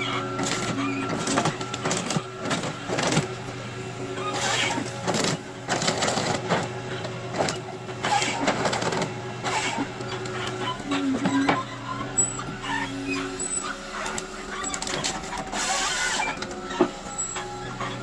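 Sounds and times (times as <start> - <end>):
engine and hydraulic drone: 0.0 - 18.0.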